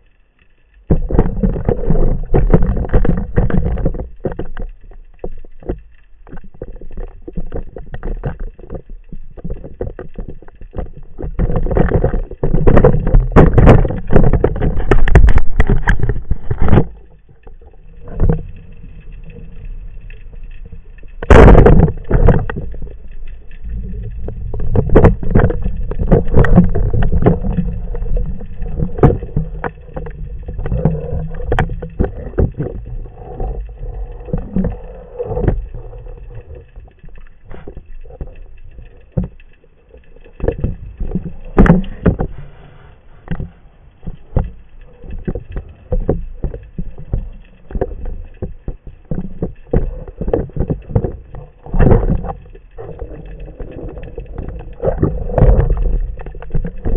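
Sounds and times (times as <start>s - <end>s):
knocks and crackles: 0.0s - 56.9s
muffled underwater water rushing: 0.0s - 56.9s.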